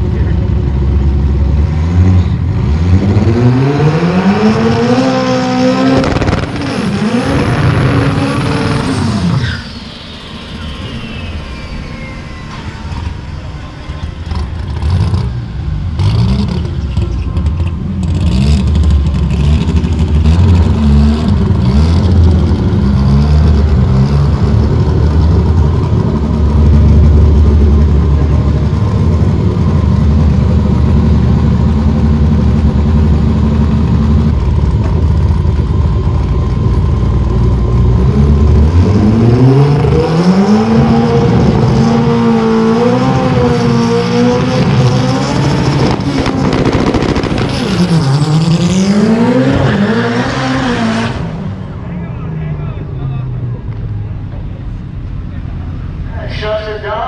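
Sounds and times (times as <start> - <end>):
race car engine revving and rumbling: 0.0 - 57.0.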